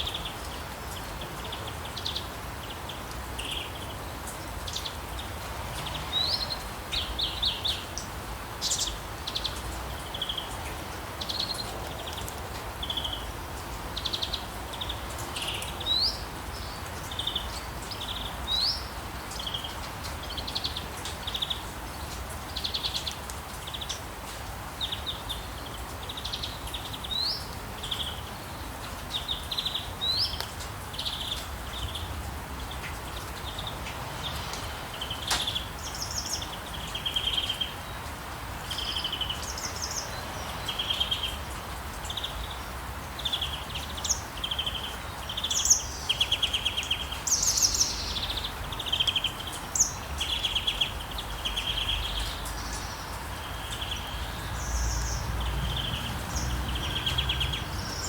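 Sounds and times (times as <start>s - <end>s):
light rain hiss: 0.0s - 58.0s
songbirds chirping and trilling: 0.0s - 58.0s.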